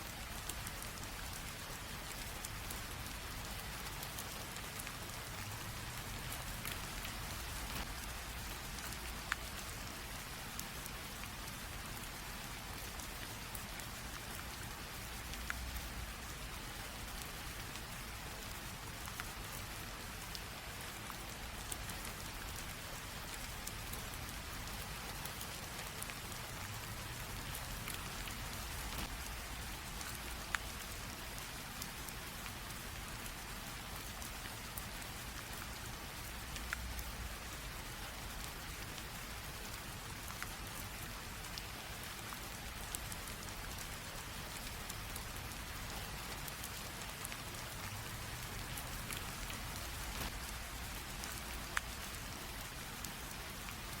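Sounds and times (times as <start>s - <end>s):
light rain hiss: 0.0s - 54.0s
raindrops ticking on surfaces: 0.0s - 54.0s.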